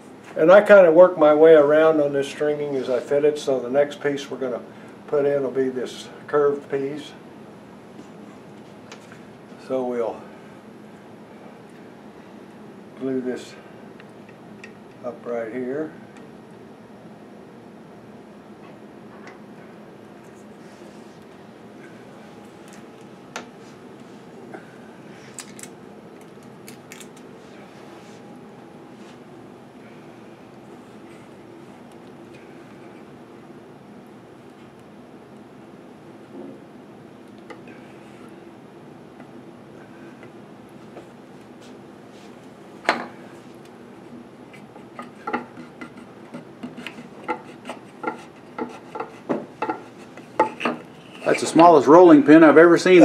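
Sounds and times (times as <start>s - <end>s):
low hum of shop room: 0.0s - 53.0s.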